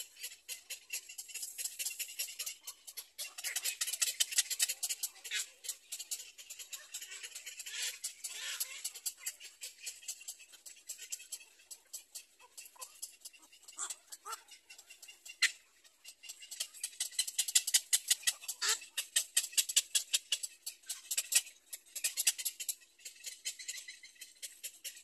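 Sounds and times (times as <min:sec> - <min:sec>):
heron chicks ticking begging calls: 0:00.0 - 0:25.0.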